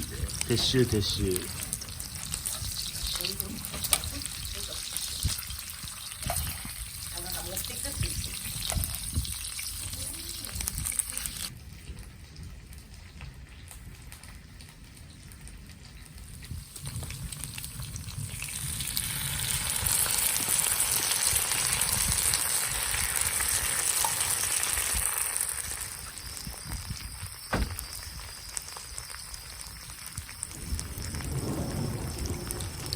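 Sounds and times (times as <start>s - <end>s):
rain falling: 0.0s - 8.6s, 9.3s - 32.9s.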